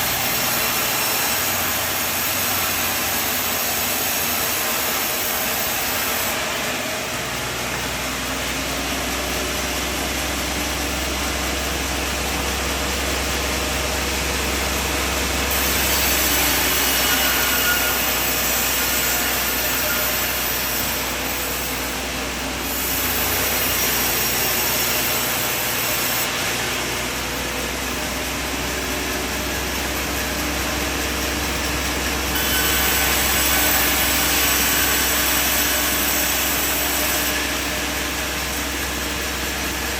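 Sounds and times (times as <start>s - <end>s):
saw cutting timber: 0.0s - 39.9s
steady engine noise: 0.0s - 39.9s.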